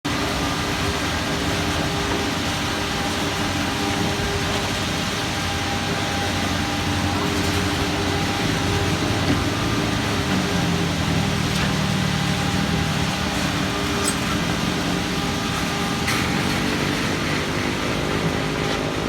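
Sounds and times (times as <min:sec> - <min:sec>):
construction machinery engine drone: 0:00.0 - 0:19.0
humming tones: 0:00.2 - 0:19.0.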